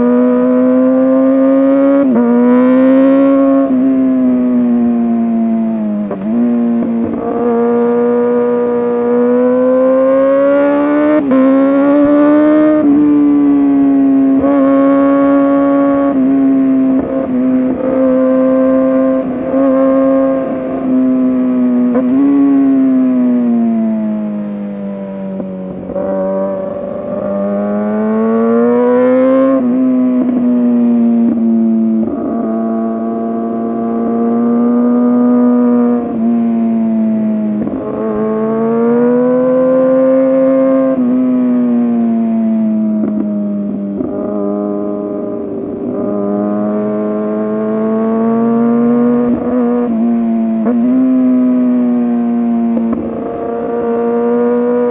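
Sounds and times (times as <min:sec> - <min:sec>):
sport motorcycle engine revving: 0:00.0 - 0:24.7, 0:25.3 - 0:54.9.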